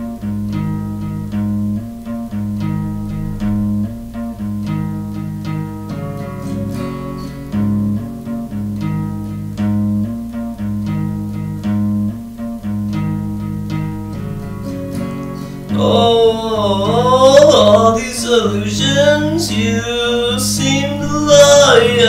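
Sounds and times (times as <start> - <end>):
acoustic guitar plucked notes: 0.0 - 22.0.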